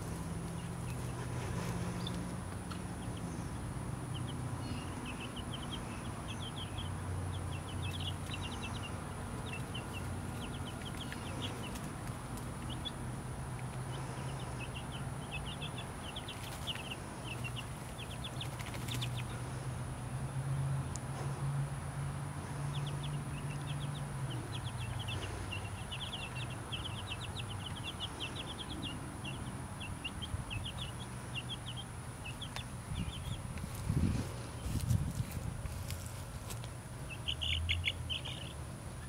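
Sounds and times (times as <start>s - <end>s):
chicks peeping: 0.0s - 19.7s, 22.4s - 39.0s.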